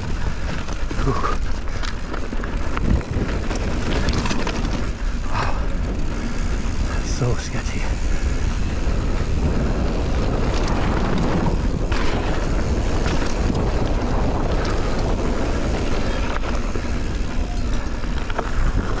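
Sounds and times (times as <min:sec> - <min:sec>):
bike tyres rolling over dirt: 0:00.0 - 0:19.0
wind buffeting microphone: 0:00.0 - 0:19.0.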